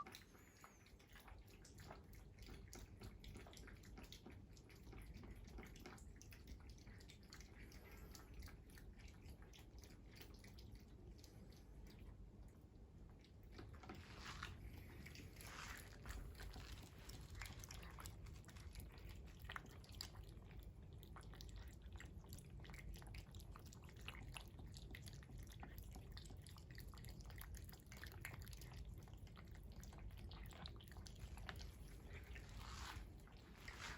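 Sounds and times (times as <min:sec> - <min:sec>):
cat chewing crunchy food: 0:01.1 - 0:33.9.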